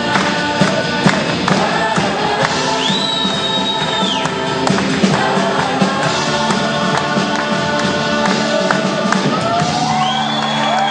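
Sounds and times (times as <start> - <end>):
drum strikes: 0.0 - 10.1
group of voices singing: 0.0 - 10.9
live band playing: 0.0 - 10.9.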